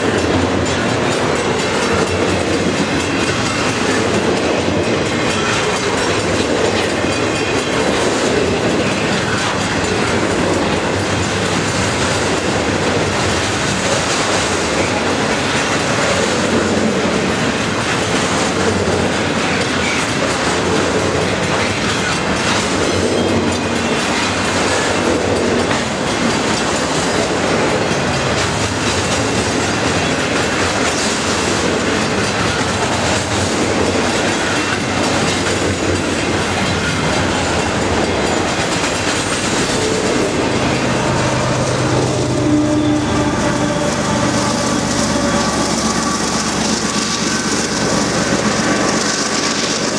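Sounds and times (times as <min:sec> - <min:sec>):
freight train wheels rumbling on rail: 0:00.0 - 0:49.9.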